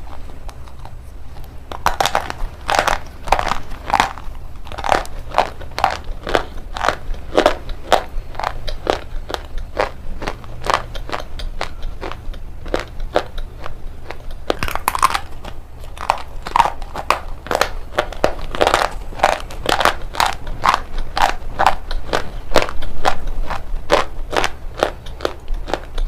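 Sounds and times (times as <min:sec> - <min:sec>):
person chewing stone crunches: 0:00.0 - 0:26.0.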